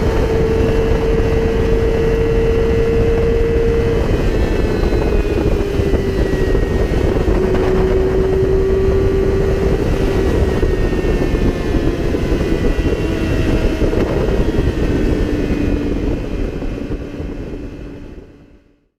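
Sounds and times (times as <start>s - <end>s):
motorcycle engine droning: 0.0s - 18.8s
wind rush on microphone: 0.0s - 18.9s.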